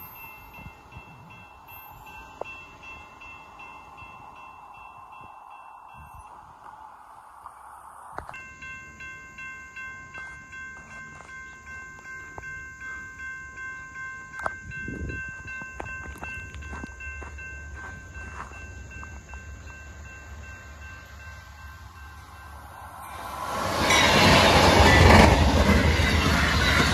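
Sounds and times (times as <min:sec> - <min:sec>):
crossing warning bell ringing: 0:00.0 - 0:06.9, 0:08.3 - 0:26.9
low train rumble: 0:00.0 - 0:26.9.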